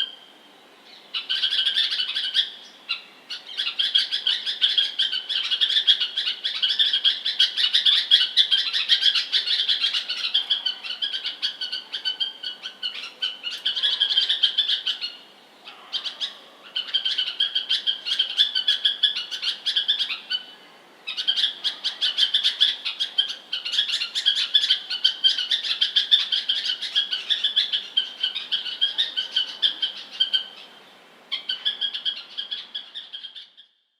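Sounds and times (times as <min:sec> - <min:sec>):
bird chirping: 0:00.0 - 0:33.9.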